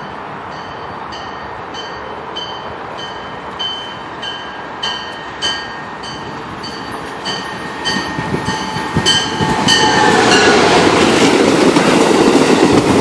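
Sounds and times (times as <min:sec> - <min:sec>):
bell ringing: 0:00.0 - 0:10.6
train rushing rumble: 0:00.0 - 0:13.0.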